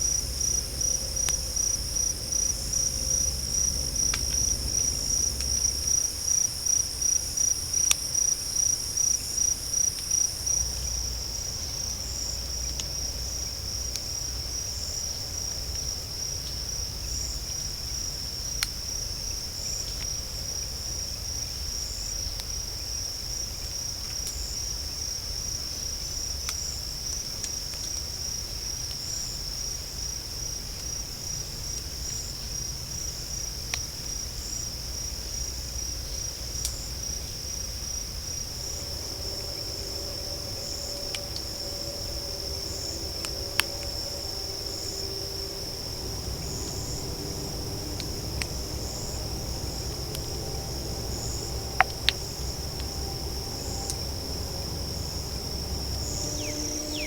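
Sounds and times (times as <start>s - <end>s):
higher pulsing insect call: 0.0s - 57.0s
insects chirring: 0.0s - 57.0s.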